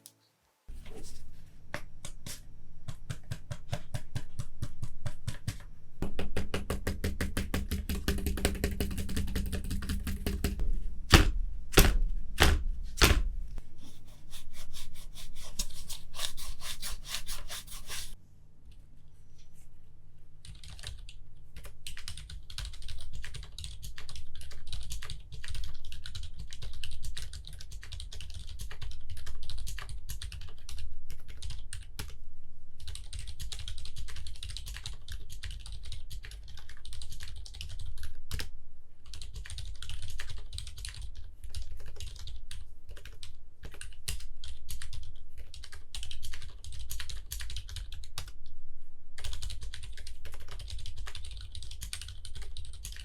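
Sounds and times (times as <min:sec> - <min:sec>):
muted keyboard typing: 0:01.8 - 0:13.3, 0:20.4 - 0:32.2, 0:32.8 - 0:48.4, 0:49.2 - 0:53.0.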